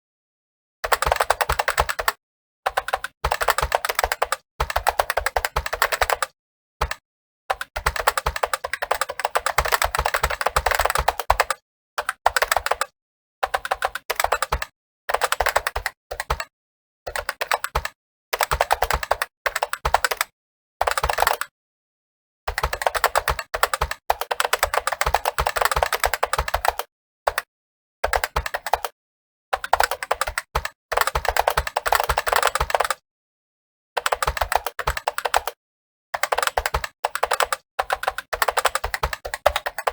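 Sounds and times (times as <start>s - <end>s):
fast typing on keyboard: 0.8s - 16.5s, 17.1s - 21.5s, 22.5s - 33.0s, 34.0s - 35.6s, 36.2s - 39.9s.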